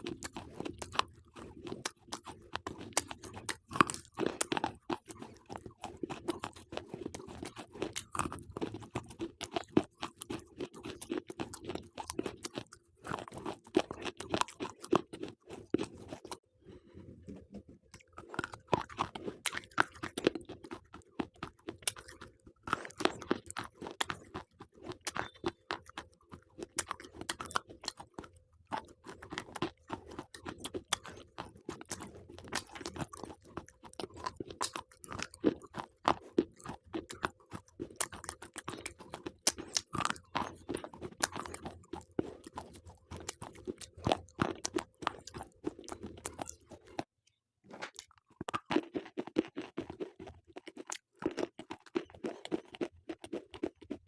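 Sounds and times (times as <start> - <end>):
teeth crunching brittle sticks: 0.0 - 16.4, 17.9 - 47.1, 47.9 - 54.0.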